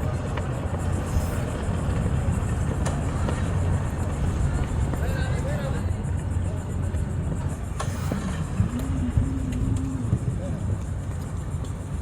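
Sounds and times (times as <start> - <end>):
engine idling rumble: 0.0 - 12.0
outdoor background noise: 0.0 - 12.0.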